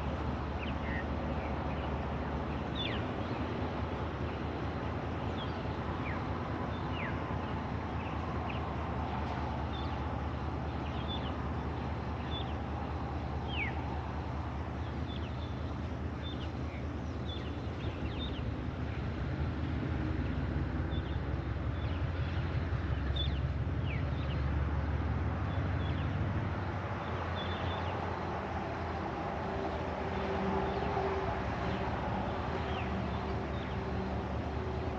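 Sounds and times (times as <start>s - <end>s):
locomotive engine hum: 0.0s - 34.9s.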